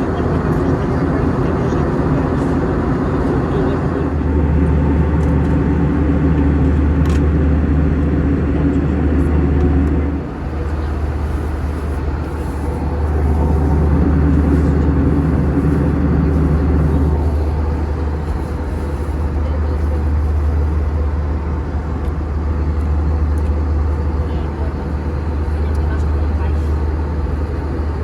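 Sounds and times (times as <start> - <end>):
aircraft engines humming: 0.0 - 28.0.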